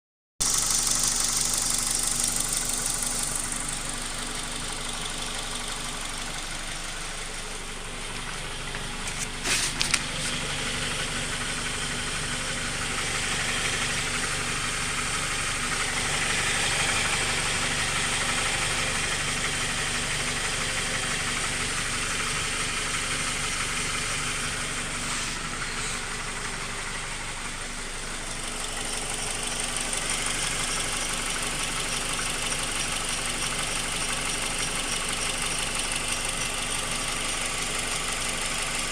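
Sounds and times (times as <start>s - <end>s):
car engine idling with knock: 0.4s - 38.9s.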